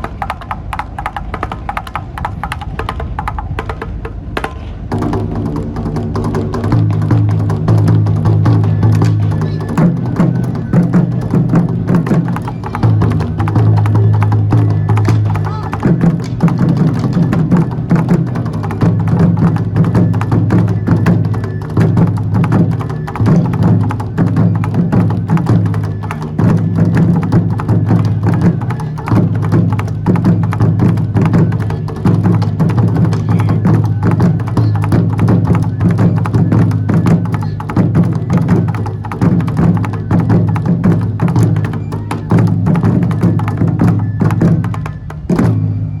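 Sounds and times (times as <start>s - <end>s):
rapid percussion music: 0.0s - 46.0s.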